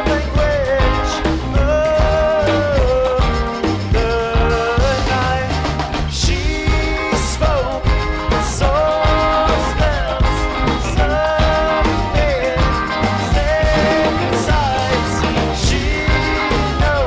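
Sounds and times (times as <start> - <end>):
drums and bass beat: 0.0 - 17.0
live band playing: 0.0 - 17.0
sliding lead melody: 0.0 - 17.0.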